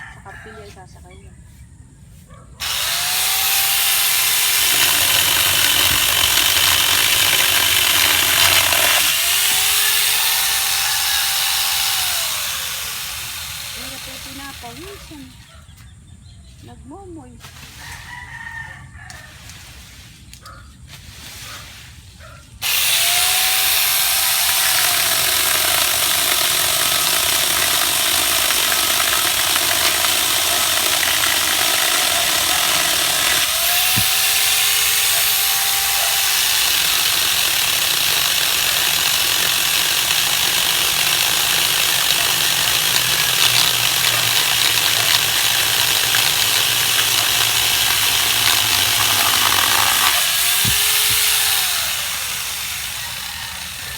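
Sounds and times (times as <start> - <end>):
chainsaw running: 2.6 - 15.5, 22.6 - 53.9.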